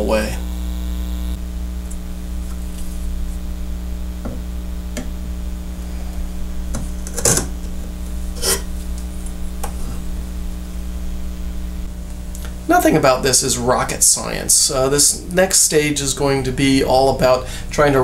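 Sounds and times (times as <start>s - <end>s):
mains hum: 0.0s - 18.0s.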